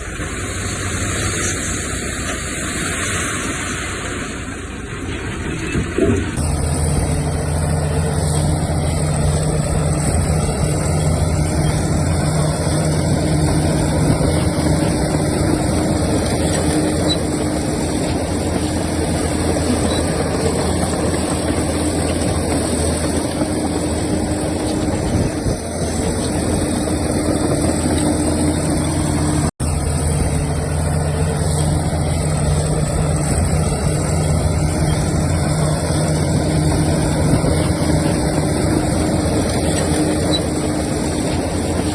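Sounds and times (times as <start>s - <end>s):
heavy machinery diesel engine running: 0.0s - 41.9s.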